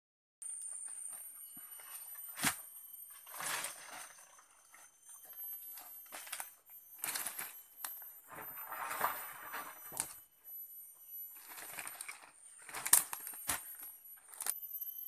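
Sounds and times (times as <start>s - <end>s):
leaves and undergrowth rustling: 0.8s - 10.2s, 11.3s - 14.6s.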